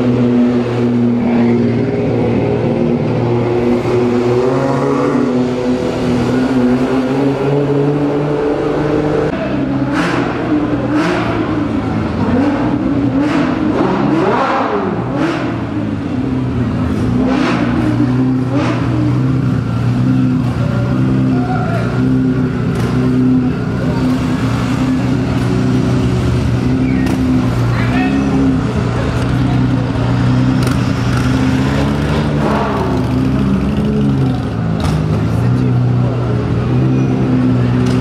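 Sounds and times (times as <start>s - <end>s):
car engine running loud: 0.0s - 38.0s.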